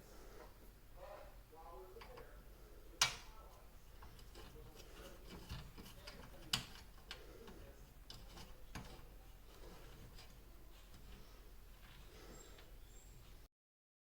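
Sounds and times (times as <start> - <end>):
light clicks and taps: 2.0 - 13.4.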